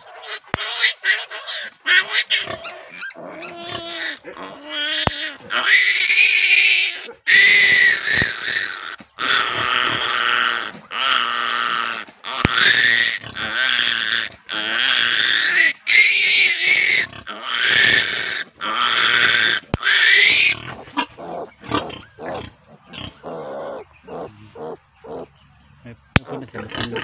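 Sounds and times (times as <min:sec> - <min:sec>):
piglet grunting: 0:00.0 - 0:25.3, 0:26.2 - 0:27.0
piglet squealing: 0:00.0 - 0:25.3.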